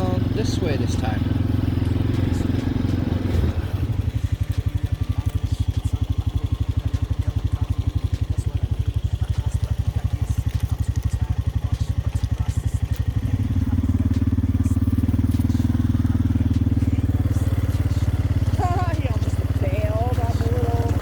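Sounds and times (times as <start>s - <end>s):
quad engine idling: 0.0s - 21.0s.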